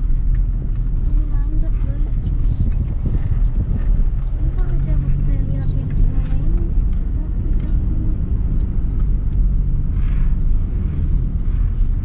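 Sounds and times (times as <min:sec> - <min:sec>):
car cabin engine and road rumble: 0:00.0 - 0:12.0.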